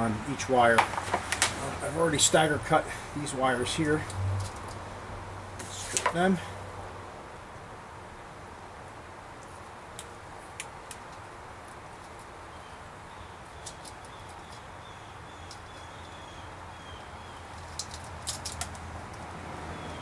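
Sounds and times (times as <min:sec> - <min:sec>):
background hiss and hum: 0:00.0 - 0:20.0.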